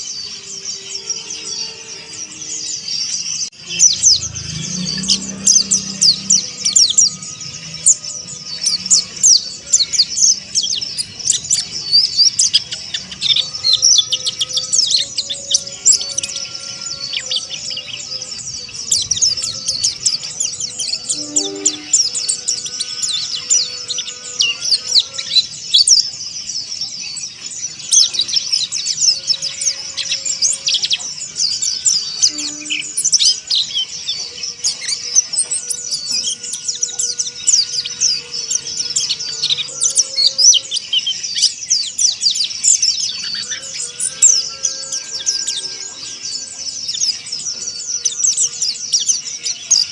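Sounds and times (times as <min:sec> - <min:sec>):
bird twittering: 0:00.0 - 0:49.9.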